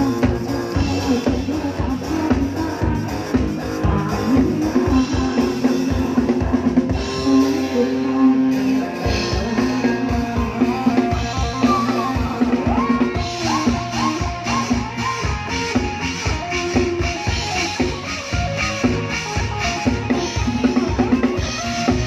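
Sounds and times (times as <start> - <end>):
drum kit beat: 0.0 - 22.0
live band music: 0.0 - 22.0.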